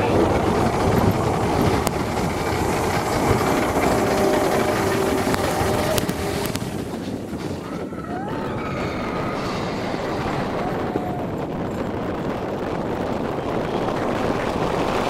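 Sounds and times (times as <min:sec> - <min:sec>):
roller coaster wheels rumbling: 0:00.0 - 0:15.0.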